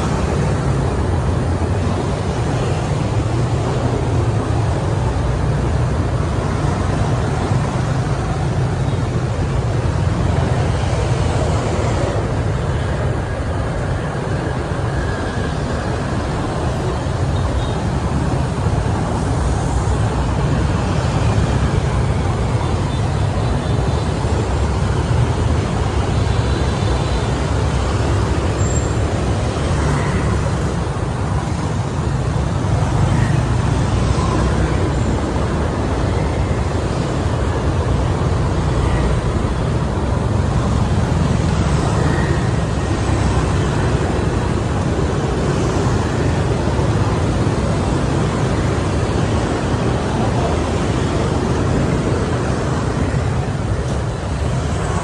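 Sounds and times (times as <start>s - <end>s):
low traffic rumble: 0.0s - 55.0s
motorbikes and cars passing: 0.0s - 55.0s.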